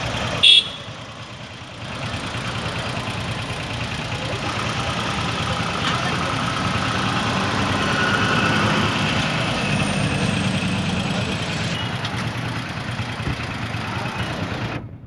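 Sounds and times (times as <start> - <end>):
vehicle engines idling and running: 0.0 - 15.0.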